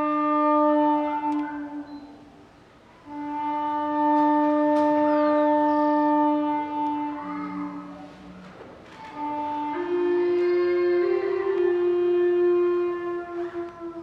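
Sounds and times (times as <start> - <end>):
wind instrument held notes: 0.0 - 14.0.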